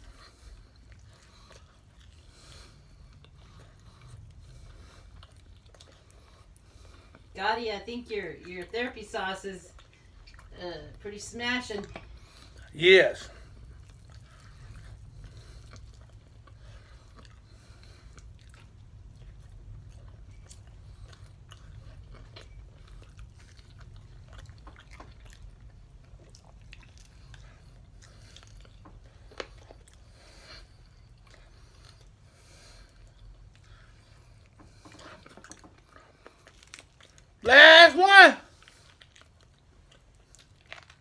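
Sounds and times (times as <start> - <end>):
chewing and biting chicken wings: 0.0 - 7.3, 13.3 - 37.4, 38.1 - 41.0.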